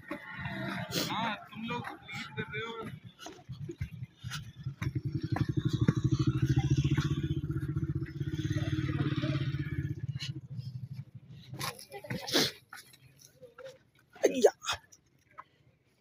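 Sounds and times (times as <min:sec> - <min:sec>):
motor engine running: 0:00.0 - 0:13.3.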